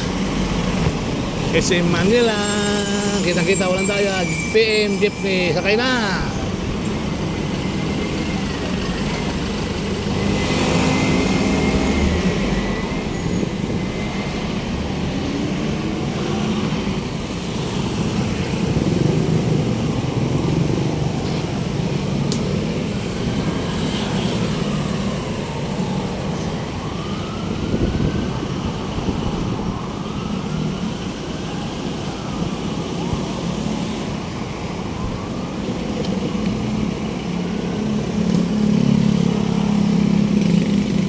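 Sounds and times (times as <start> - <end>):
city street traffic: 0.0 - 41.0.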